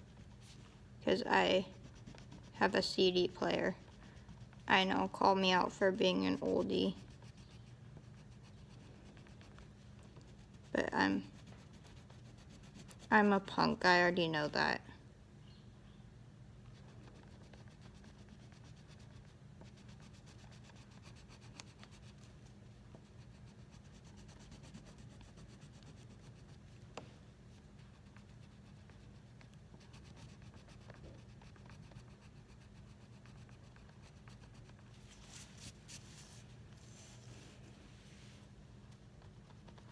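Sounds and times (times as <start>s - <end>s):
coloring on paper scratching: 0.0s - 13.8s, 16.7s - 22.3s, 22.9s - 26.8s, 27.5s - 37.2s
low steady hum: 0.0s - 39.9s.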